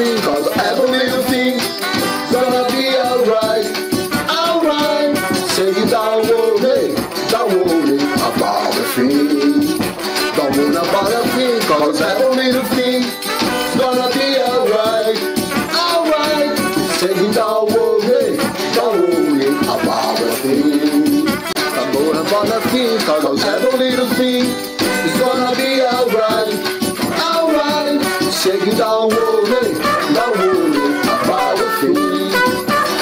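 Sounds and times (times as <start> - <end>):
instrumental melody: 0.0 - 33.0
shaker rattling: 0.0 - 33.0.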